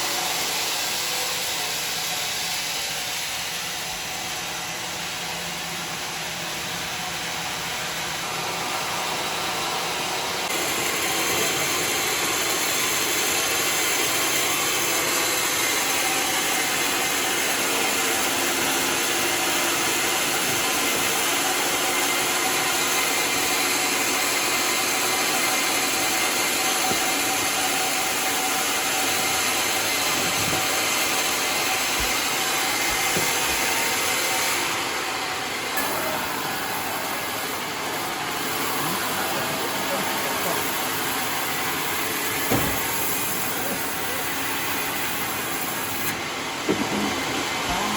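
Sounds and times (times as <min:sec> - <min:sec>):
saw cutting through log: 0:00.0 - 0:47.9
saw motor running: 0:00.0 - 0:47.9.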